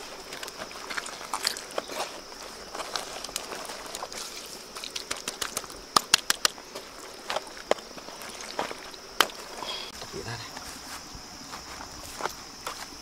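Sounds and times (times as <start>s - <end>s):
banana leaves crackling: 0.0s - 13.0s.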